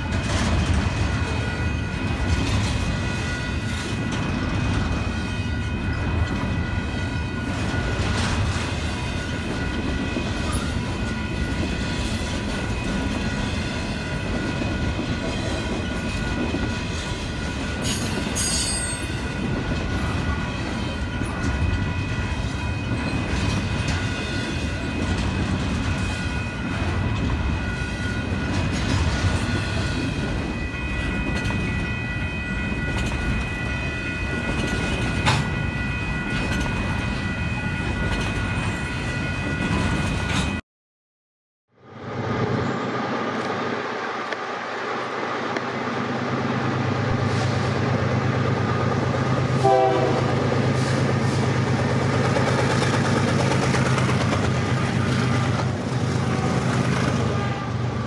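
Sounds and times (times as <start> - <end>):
clickety-clack of train cars: 0.0 - 40.6, 42.4 - 58.0
train wheels rumbling on rail: 0.0 - 40.6, 42.0 - 58.0.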